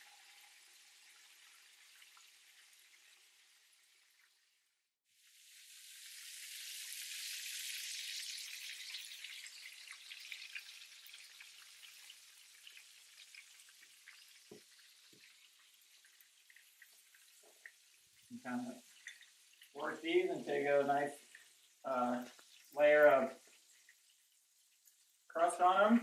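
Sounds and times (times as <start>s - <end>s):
fish sizzling in pans: 0.0s - 26.0s.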